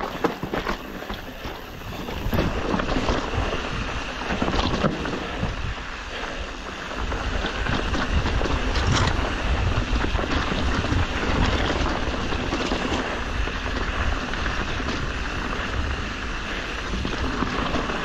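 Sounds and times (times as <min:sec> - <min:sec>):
bike clicks and rattles: 0:00.0 - 0:18.0
bike tyre noise: 0:00.0 - 0:18.0
wind rumbling on microphone: 0:00.0 - 0:18.0.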